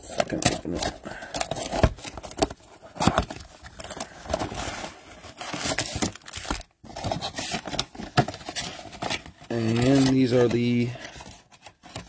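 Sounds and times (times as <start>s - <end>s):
cardboard tearing and scraping: 0.0s - 12.0s.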